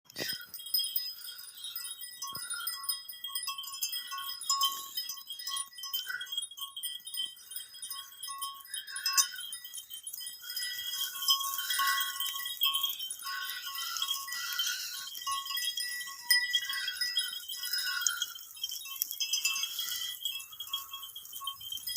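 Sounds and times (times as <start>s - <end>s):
bells tinkling: 0.0s - 21.9s.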